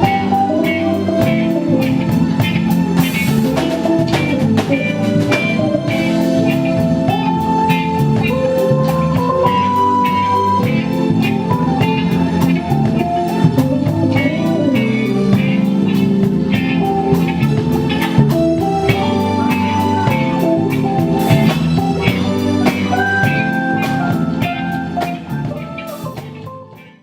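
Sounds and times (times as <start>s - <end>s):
lead guitar: 0.0s - 27.0s
live blues band playing: 0.0s - 27.0s.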